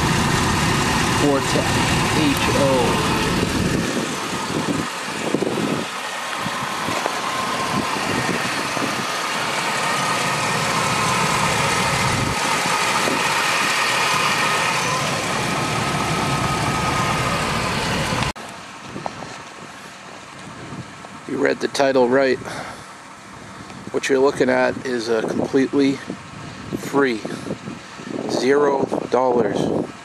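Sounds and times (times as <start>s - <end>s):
car engine idling: 0.0s - 28.2s.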